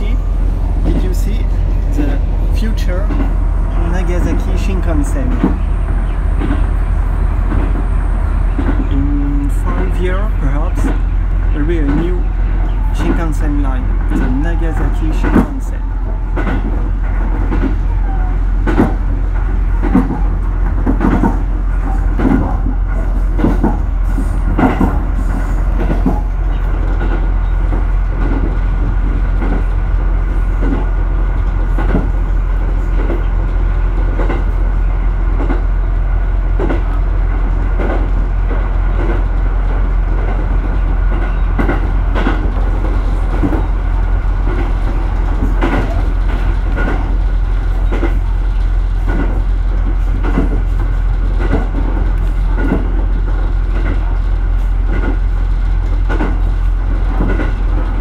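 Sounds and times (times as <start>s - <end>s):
railcar low rumble: 0.0s - 58.0s
wheels clacking over rail joints: 0.0s - 58.0s.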